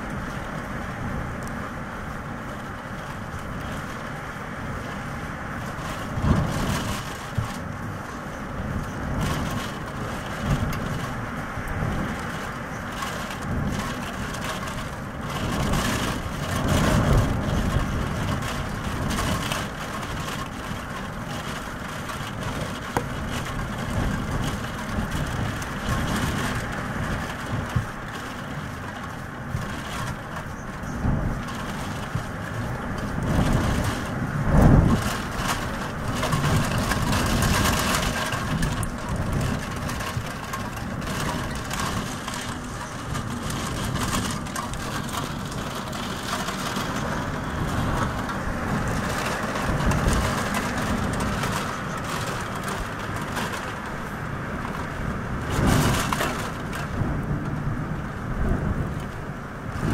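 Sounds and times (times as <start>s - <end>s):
gusting wind: 0.0s - 59.9s
heavy rain on window glass: 0.0s - 59.9s
low rumbles: 0.0s - 59.9s.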